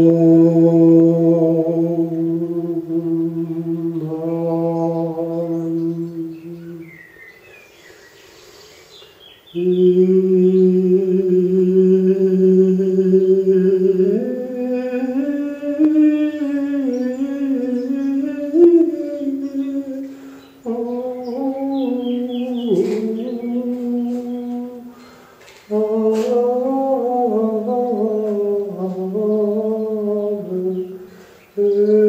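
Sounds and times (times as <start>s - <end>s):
person chanting in long tones: 0.0s - 7.0s, 9.5s - 32.0s.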